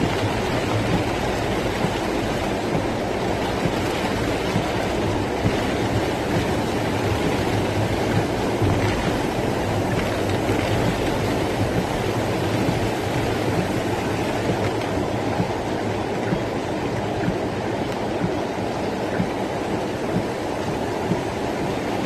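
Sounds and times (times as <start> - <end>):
rainwater rushing down street: 0.0 - 22.0.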